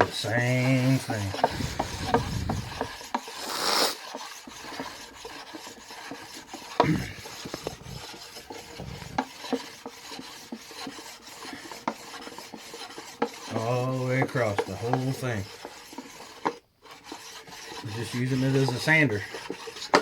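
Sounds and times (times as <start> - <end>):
stone scraping wooden board: 0.0 - 20.0.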